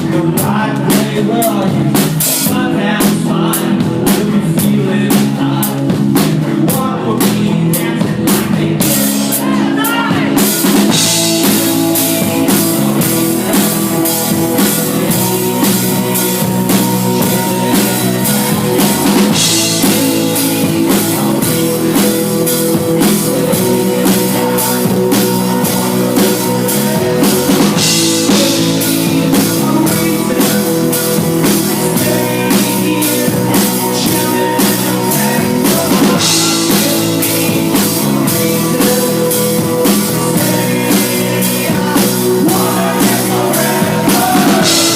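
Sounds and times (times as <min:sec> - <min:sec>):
drum kit beat: 0:00.0 - 0:44.9
guitar: 0:00.0 - 0:44.9.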